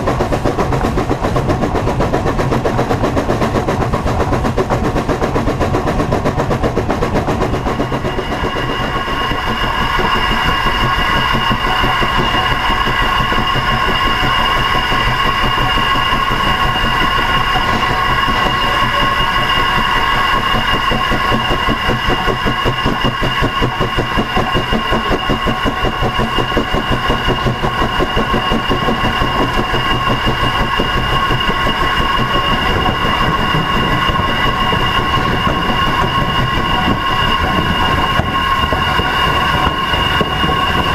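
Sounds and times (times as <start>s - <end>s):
constant high whine: 0.0s - 40.9s
steam locomotive rumbling: 0.0s - 40.9s.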